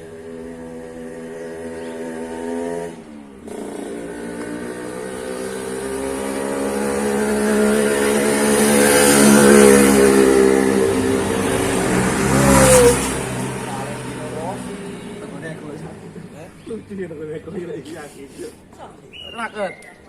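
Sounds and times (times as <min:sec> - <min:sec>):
vehicle engine humming: 0:00.0 - 0:19.3.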